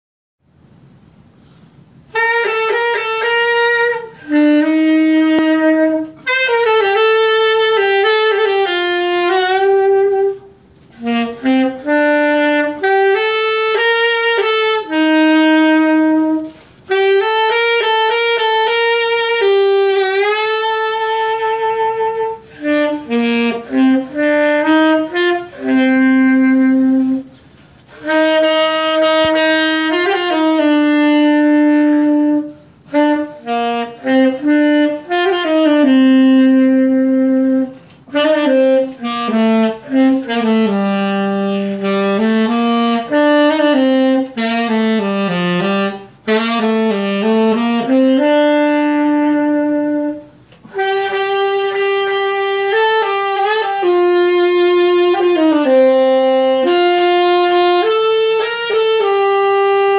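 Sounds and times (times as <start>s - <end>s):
solo saxophone melody: 0.6s - 59.9s.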